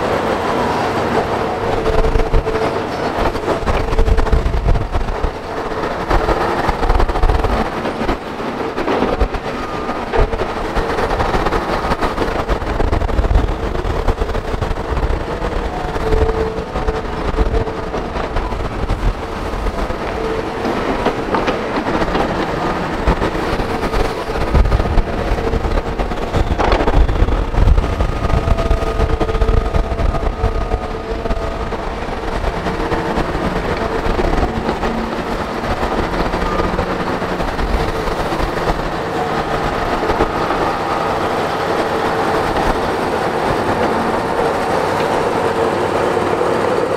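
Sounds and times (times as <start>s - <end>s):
excavator diesel rumble: 0.0s - 46.9s.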